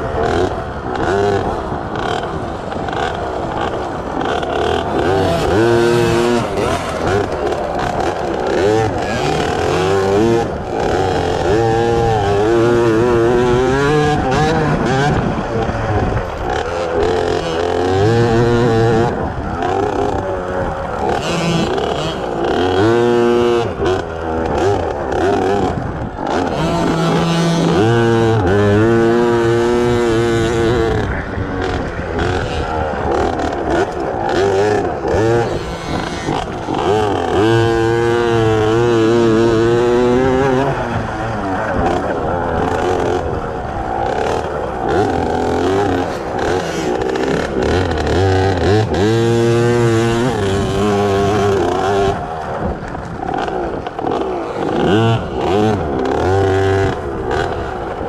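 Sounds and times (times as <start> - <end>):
two-stroke bike engines revving: 0.0 - 58.0.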